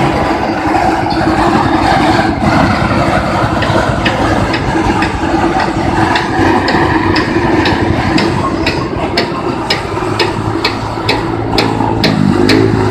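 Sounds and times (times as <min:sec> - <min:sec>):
thresher engine hum: 0:00.0 - 0:12.9.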